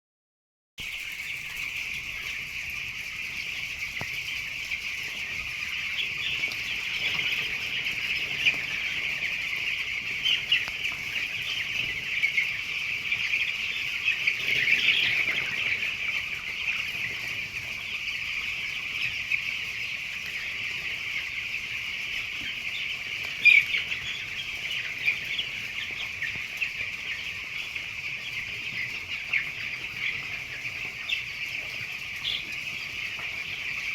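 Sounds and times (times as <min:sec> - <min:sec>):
chicks peeping: 0:00.8 - 0:33.9.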